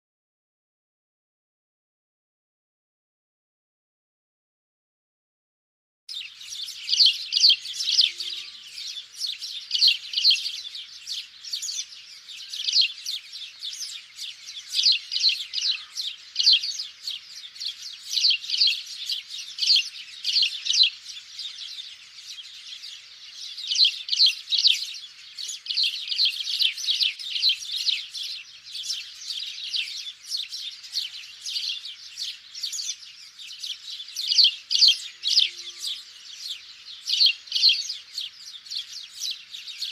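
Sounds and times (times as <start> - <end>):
sparrows chirping: 6.1 - 39.9.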